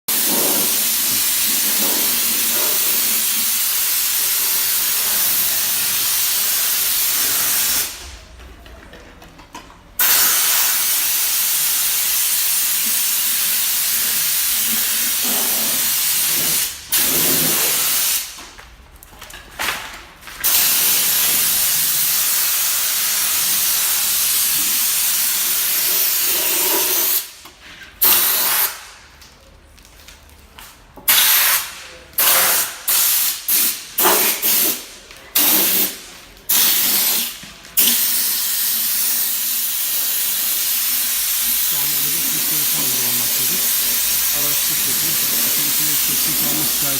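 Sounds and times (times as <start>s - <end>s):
compressed air hissing from air tool: 0.1s - 8.0s, 10.0s - 18.3s, 20.4s - 27.3s, 28.0s - 28.8s, 31.1s - 34.8s, 35.4s - 46.9s.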